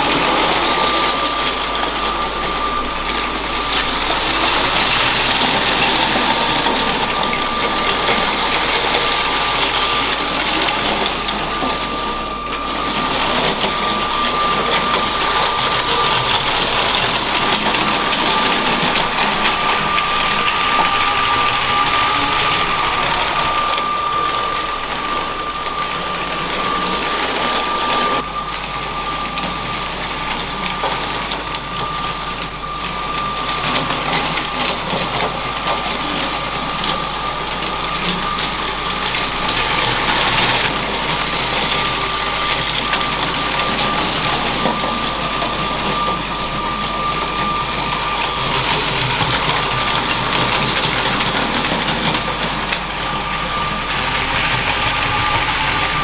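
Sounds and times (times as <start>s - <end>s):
small electric motor whine: 0.0s - 56.0s
wheels clattering on plastic track: 0.0s - 56.0s.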